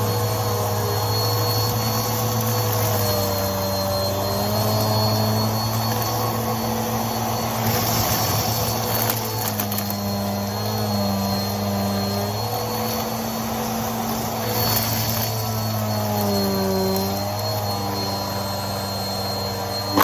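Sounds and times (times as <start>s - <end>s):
vacuum cleaner running: 0.0s - 20.0s
debris crackling in vacuum: 1.0s - 20.0s.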